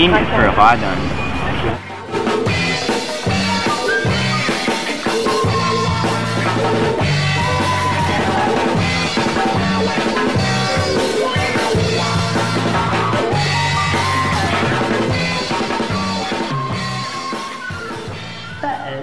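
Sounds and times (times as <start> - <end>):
music with drums and bass: 1.8 - 19.0.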